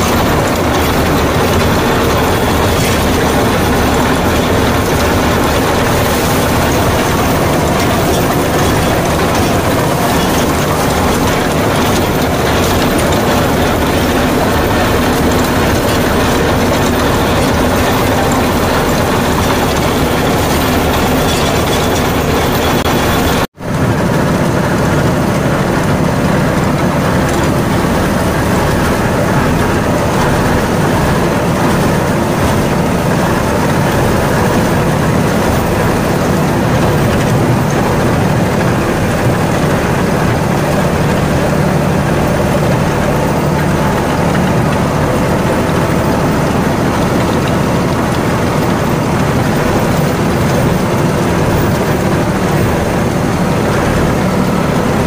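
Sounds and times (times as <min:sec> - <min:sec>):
rotavator churning soil: 0:00.0 - 0:55.0
tractor engine running: 0:00.0 - 0:55.0.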